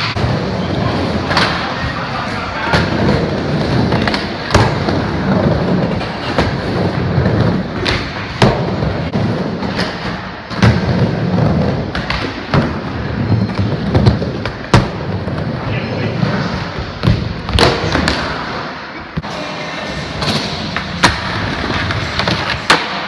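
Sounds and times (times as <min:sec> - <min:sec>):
skateboard wheels rolling: 0:00.0 - 0:17.0, 0:17.6 - 0:23.0.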